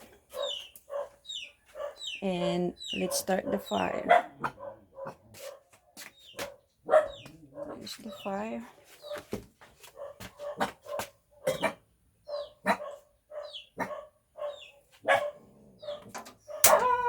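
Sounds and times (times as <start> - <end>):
dog barking: 0.3 - 2.2, 2.9 - 8.3, 9.0 - 17.0.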